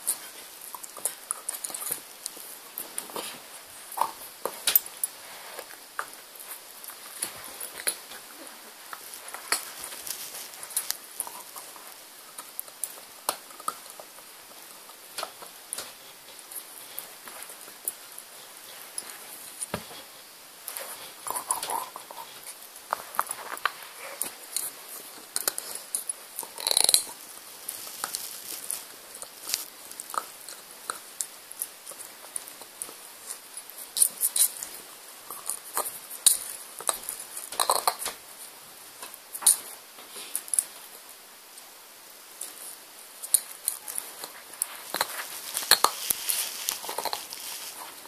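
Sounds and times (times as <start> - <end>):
puppy chewing a bone: 0.0 - 20.1, 20.7 - 38.2, 42.4 - 48.0.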